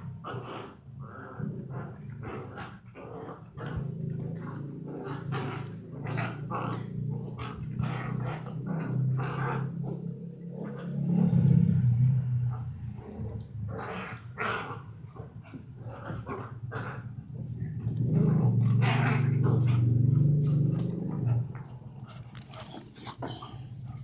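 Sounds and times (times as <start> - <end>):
dogs barking and snarling: 0.0 - 24.0
dogs growling: 0.0 - 24.0.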